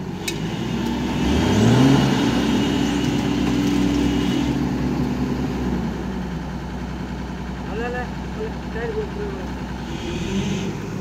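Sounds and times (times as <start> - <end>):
heavy vehicle engine revving: 0.0 - 11.0.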